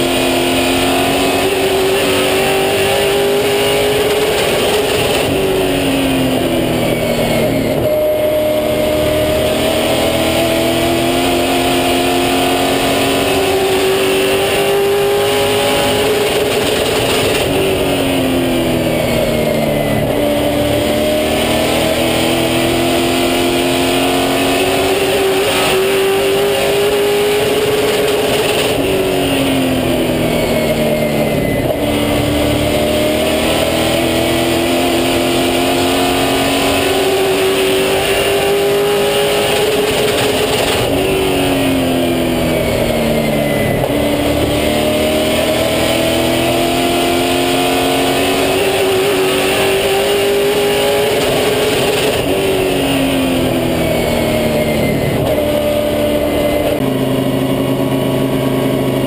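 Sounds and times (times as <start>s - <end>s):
racing car engine at full throttle: 0.0s - 59.0s.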